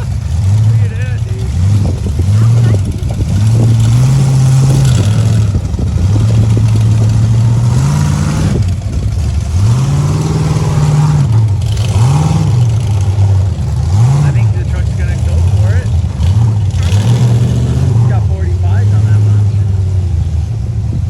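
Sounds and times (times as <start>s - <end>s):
engine revving in throttle blips: 0.0s - 21.0s.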